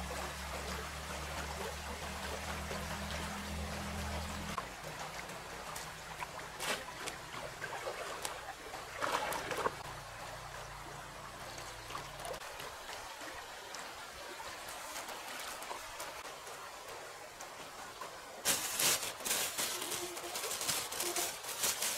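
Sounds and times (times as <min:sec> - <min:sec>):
small water splashes: 0:00.0 - 0:21.9
water trickling: 0:00.0 - 0:21.9.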